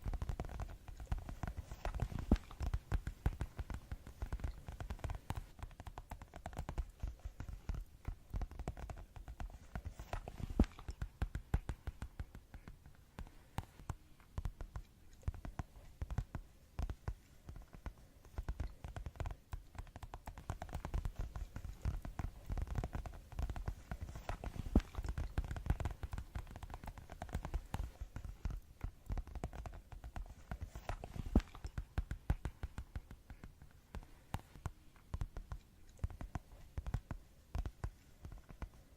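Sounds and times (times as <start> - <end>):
fast tapping: 0.0 - 38.9.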